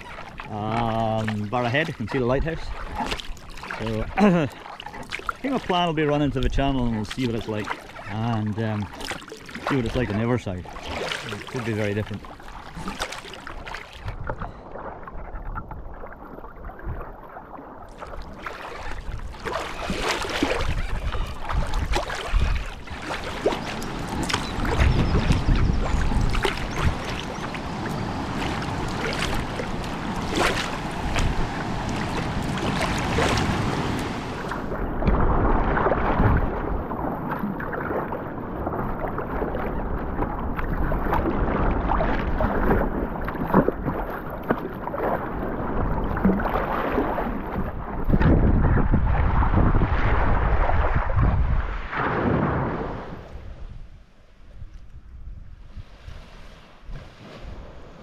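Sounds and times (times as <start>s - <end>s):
water splashing around kayak: 0.0s - 58.0s
wind rumbling on microphone: 5.4s - 8.9s, 9.7s - 58.0s.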